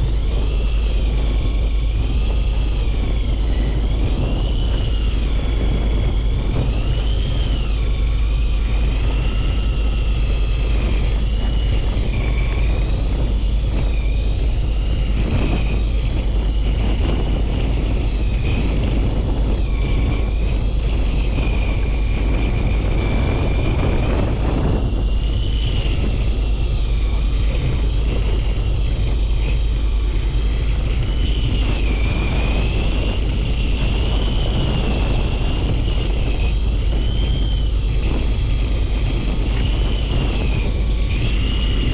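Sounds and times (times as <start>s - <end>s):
boat engine rumble: 0.0s - 41.9s
high wavering whine: 0.0s - 41.9s.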